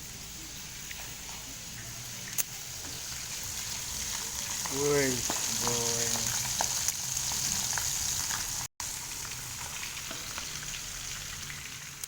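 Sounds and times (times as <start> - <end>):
fish frying in hot oil: 0.2 - 12.0.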